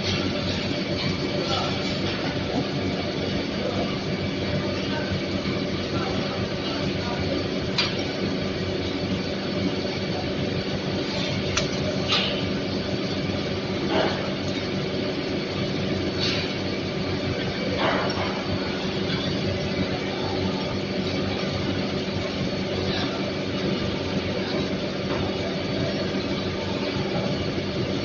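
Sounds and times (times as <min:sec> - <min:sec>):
conveyor mechanical hum: 0:00.0 - 0:28.0.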